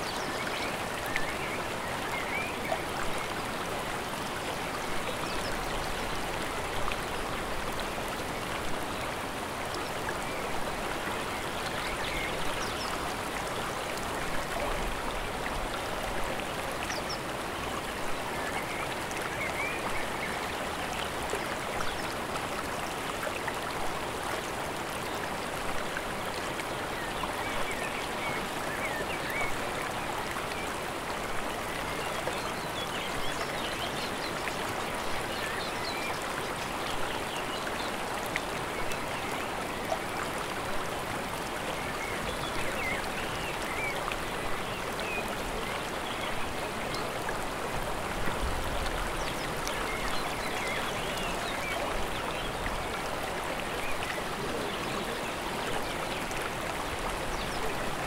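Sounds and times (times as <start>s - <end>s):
stream and waterfall rushing: 0.0s - 58.0s.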